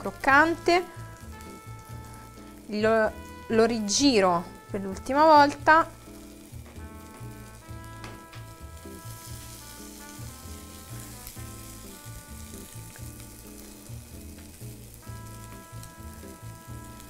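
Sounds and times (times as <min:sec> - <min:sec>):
potato sizzling in a pan: 0:00.0 - 0:17.0
soft background music: 0:00.0 - 0:17.0.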